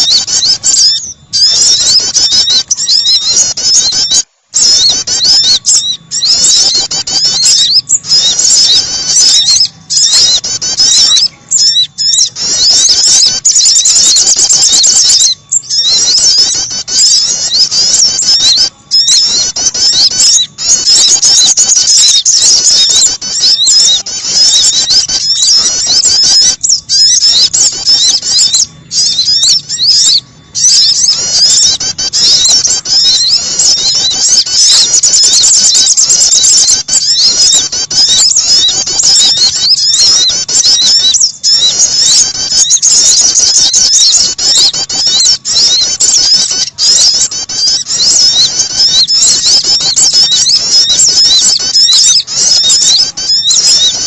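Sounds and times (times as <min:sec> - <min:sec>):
recorded songbird chirps and trills: 0:00.0 - 0:54.0.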